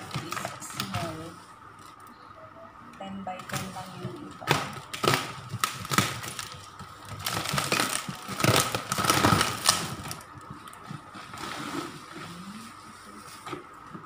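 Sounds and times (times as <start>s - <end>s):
plastic wrapping crinkling: 0.0s - 2.1s, 3.4s - 13.7s.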